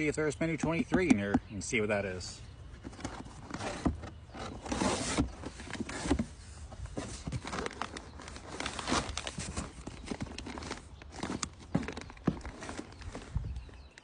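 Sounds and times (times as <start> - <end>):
plastic bags rustling and knocking: 2.7 - 14.0.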